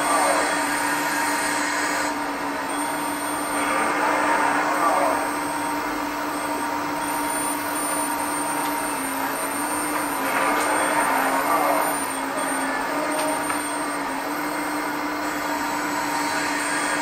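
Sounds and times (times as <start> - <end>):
hydraulic pump whining: 0.0 - 17.0
hydraulic rushing surges: 0.0 - 17.0.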